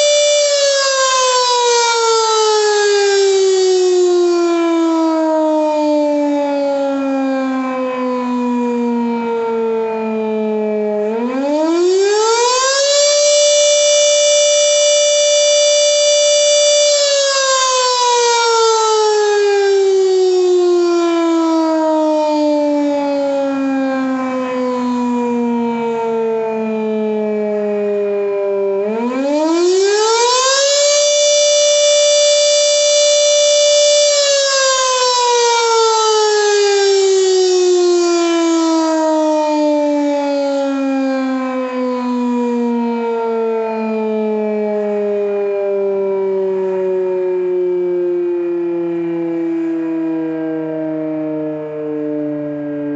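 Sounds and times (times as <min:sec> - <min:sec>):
fire siren wailing: 0:00.0 - 0:52.9.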